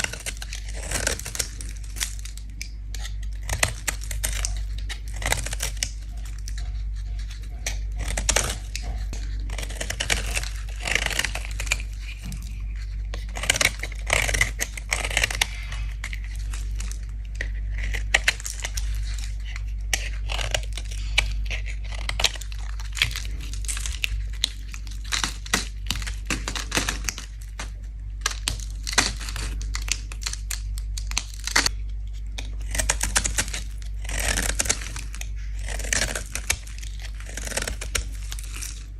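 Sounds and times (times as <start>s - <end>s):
blade scraping soap: 0.0s - 38.9s
steady low hum: 0.0s - 38.9s.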